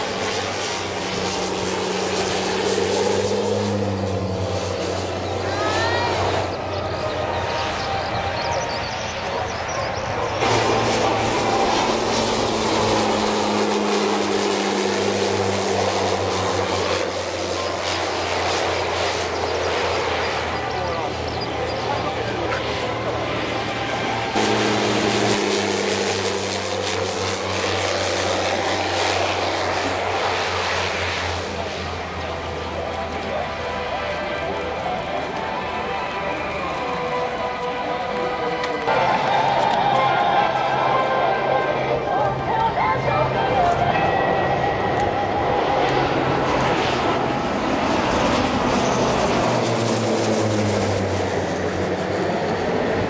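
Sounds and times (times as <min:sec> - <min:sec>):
propeller aircraft engine hum: 0:00.0 - 0:53.0.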